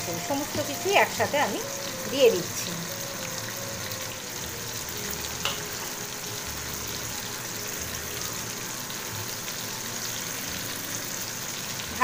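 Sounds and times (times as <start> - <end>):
spices frying in oil: 0.0 - 12.0.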